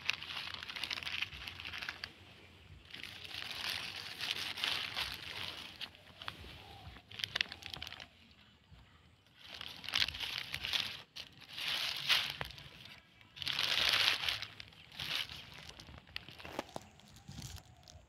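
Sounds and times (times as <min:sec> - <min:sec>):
plastic rubbish crinkling: 0:00.0 - 0:18.0.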